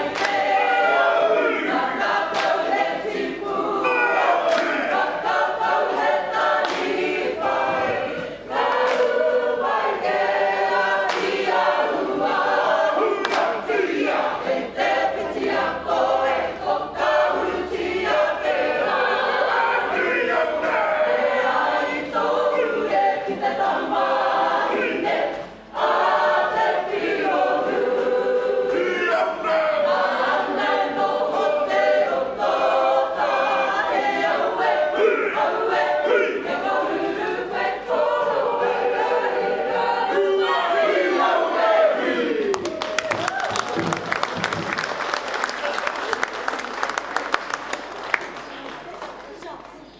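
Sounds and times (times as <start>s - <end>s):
group of people singing: 0.0s - 44.7s.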